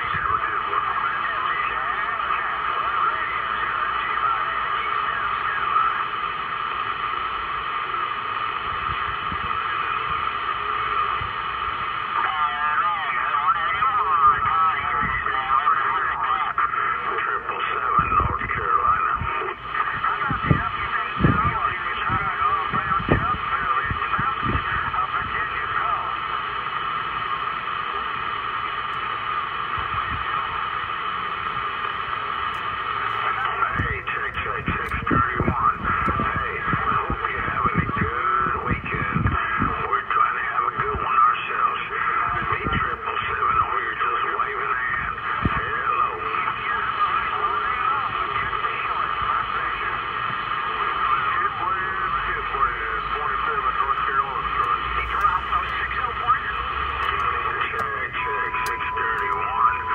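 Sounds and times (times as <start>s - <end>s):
faint steady tones: 0.0s - 59.9s
radio static hiss: 0.0s - 59.9s
warbling radio voice: 0.0s - 59.9s.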